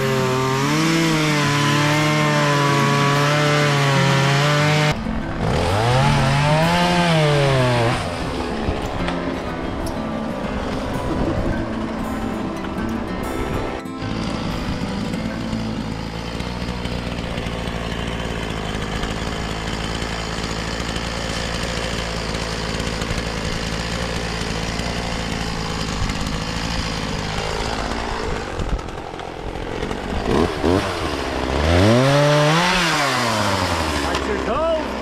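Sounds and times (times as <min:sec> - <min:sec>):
chainsaw running and revving: 0:00.0 - 0:13.0, 0:13.8 - 0:35.0.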